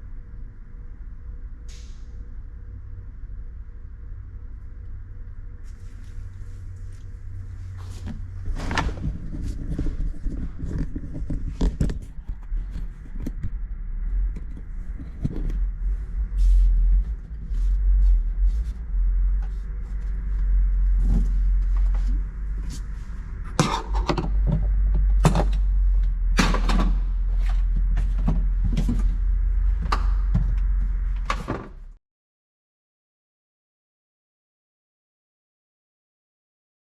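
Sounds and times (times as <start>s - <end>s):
deep rumble: 0.0s - 32.0s.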